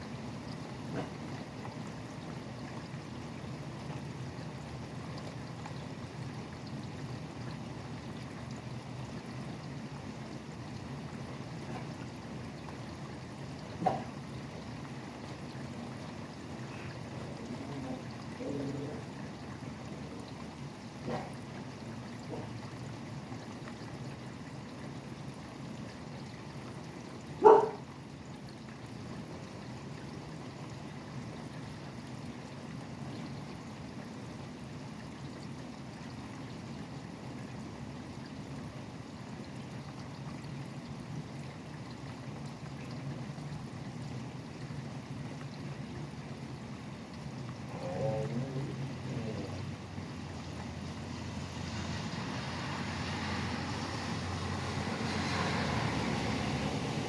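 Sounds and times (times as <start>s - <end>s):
steady rain: 0.0s - 57.0s
highway traffic rumble: 0.1s - 44.2s, 45.8s - 57.0s.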